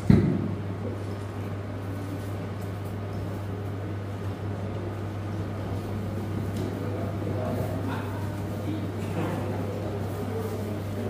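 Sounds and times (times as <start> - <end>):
room noise: 0.0 - 11.0
steady low hum: 0.0 - 11.0.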